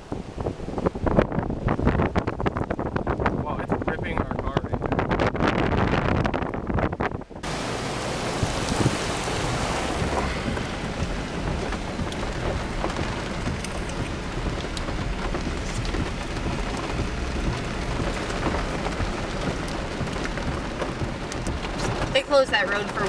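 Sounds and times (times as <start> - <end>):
rain on car roof: 0.0 - 23.0.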